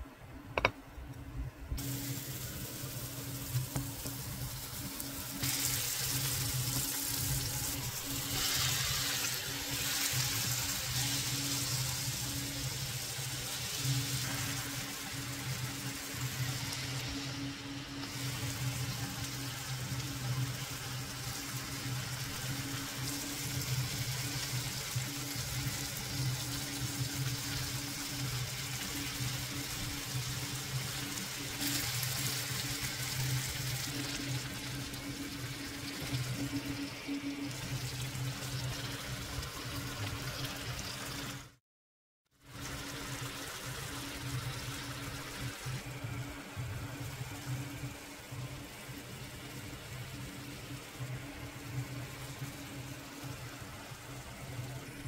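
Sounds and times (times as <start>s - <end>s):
food sizzling in a pan: 1.8s - 41.6s, 42.4s - 55.0s.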